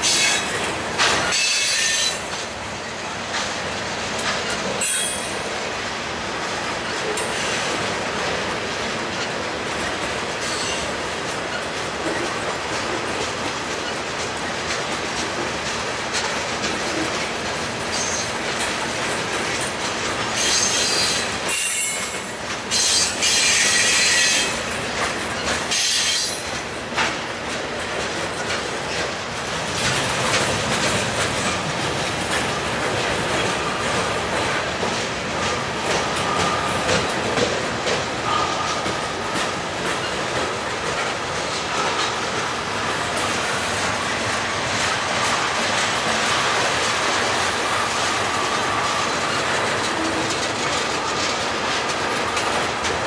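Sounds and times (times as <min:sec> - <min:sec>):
freight cars rattling on rails: 0:00.0 - 0:53.0.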